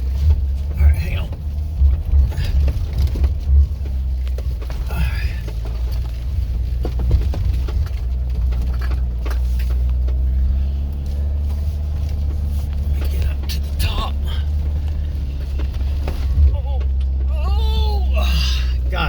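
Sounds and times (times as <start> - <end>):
car engine running under load: 0.0 - 19.0.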